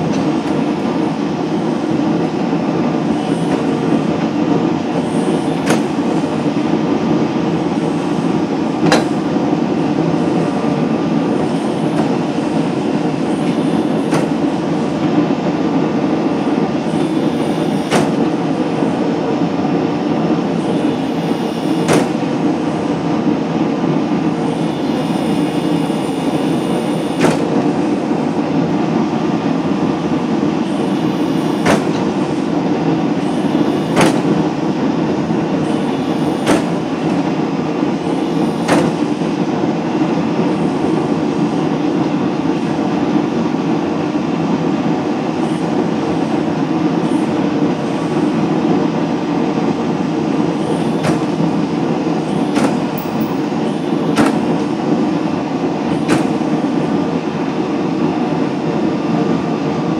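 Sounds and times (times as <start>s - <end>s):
hydraulic pump drone: 0.0s - 59.9s.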